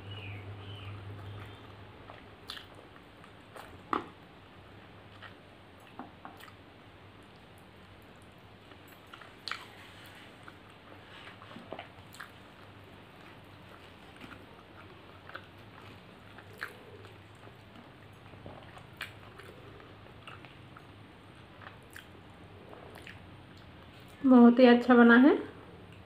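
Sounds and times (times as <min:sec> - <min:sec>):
faint low hum: 0:00.0 - 0:26.0
wet chewing smacks and clicks: 0:01.0 - 0:06.6, 0:07.2 - 0:09.8, 0:10.4 - 0:24.0.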